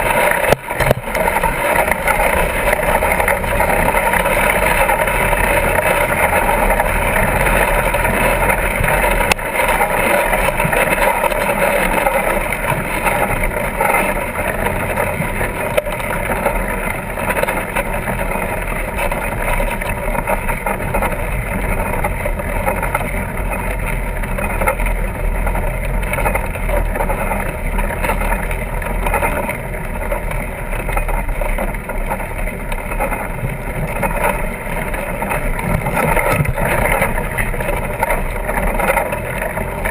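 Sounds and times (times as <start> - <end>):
bike tyres rolling on sand: 0.0 - 39.9.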